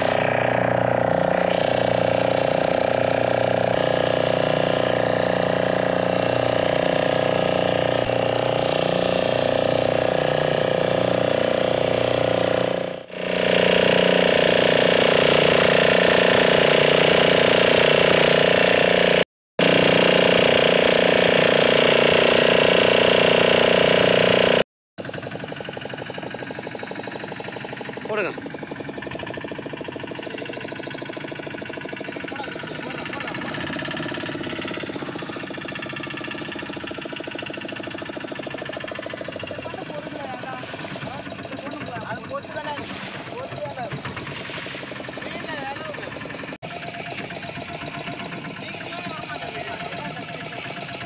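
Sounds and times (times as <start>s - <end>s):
boat engine running: 0.0s - 51.0s.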